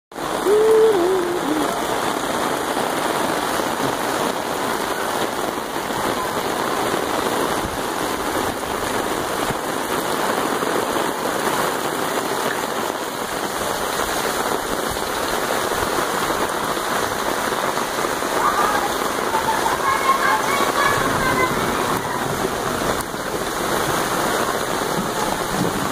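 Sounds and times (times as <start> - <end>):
heavy rain: 0.1 - 25.9.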